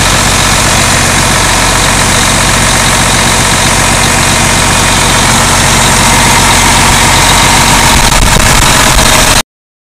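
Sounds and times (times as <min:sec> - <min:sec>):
diesel engine running loudly: 0:00.0 - 0:09.4.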